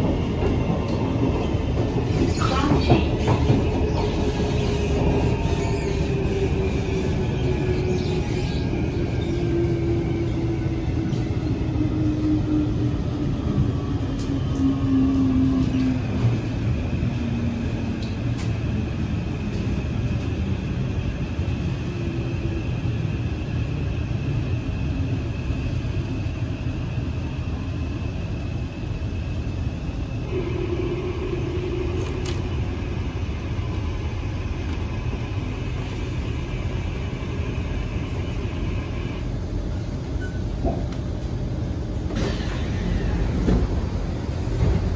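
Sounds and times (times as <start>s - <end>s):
train rumbling on track: 0.0s - 44.9s.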